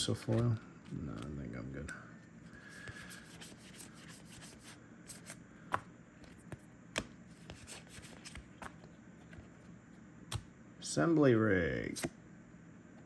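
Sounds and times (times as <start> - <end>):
cards rustling and sliding: 0.0 - 10.5.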